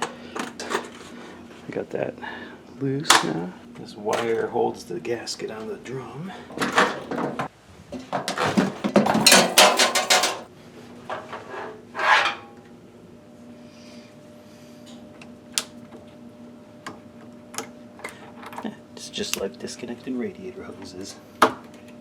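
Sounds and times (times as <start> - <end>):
faint steady hum: 0.0 - 8.2, 9.2 - 22.0.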